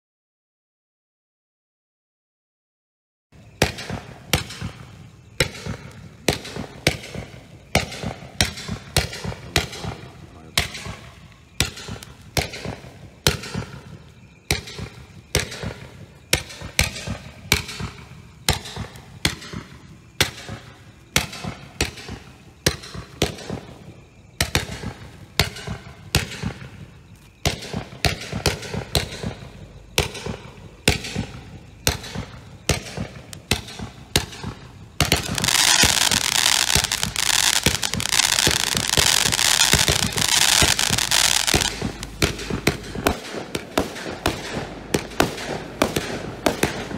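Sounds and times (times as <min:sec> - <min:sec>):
dense firework crackling: 0:03.4 - 0:46.9
firework shots firing: 0:03.5 - 0:26.8, 0:27.4 - 0:46.9.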